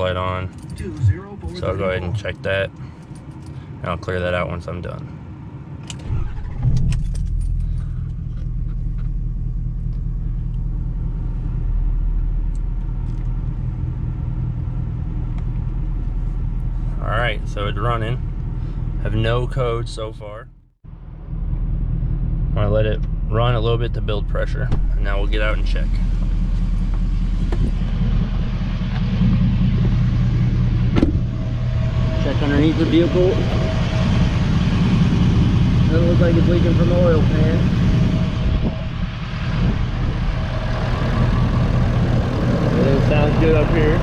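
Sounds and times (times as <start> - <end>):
diesel truck engine idling: 7.4 - 20.0, 21.0 - 44.0.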